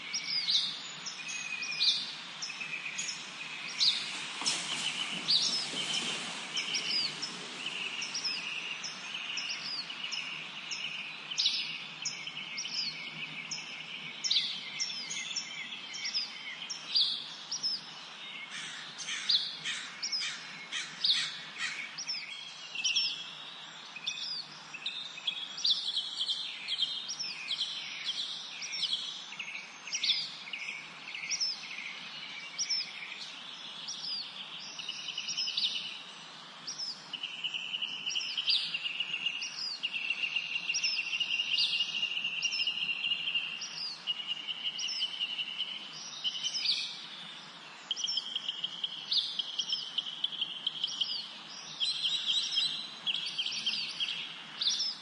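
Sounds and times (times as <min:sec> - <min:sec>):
faint steady hiss: 0:00.0 - 0:55.0
songbirds chirping: 0:00.0 - 0:55.0.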